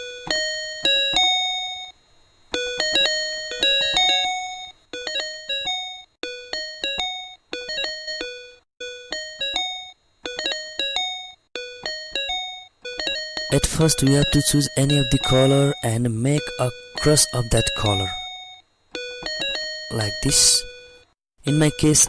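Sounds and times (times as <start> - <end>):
chiming keyboard melody: 0.0 - 1.9, 2.6 - 22.0.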